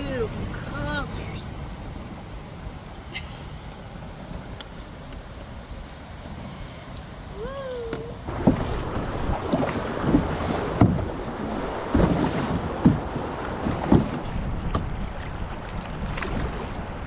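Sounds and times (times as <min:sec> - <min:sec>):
water splashing around kayak: 0:00.0 - 0:17.0
wind on microphone: 0:00.0 - 0:17.0.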